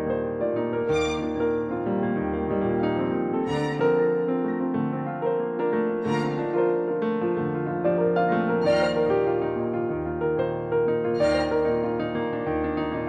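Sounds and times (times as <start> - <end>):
soft piano piece: 0.0 - 13.0.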